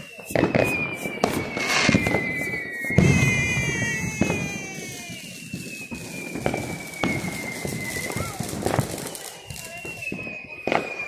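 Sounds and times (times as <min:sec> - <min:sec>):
fireworks bangs: 0:00.0 - 0:11.0
fireworks whistling: 0:00.0 - 0:11.0.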